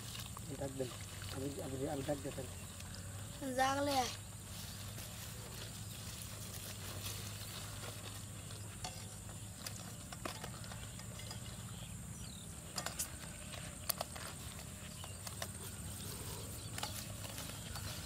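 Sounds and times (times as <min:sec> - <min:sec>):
rustling plastic sheet and weeds: 0:00.0 - 0:02.7, 0:03.4 - 0:11.0, 0:13.4 - 0:18.0.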